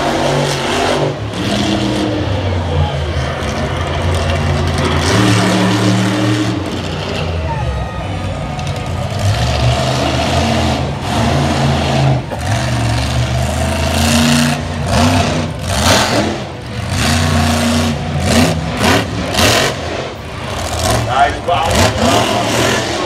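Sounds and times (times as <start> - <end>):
truck engine revving hard: 0.0 - 7.9, 8.7 - 23.0.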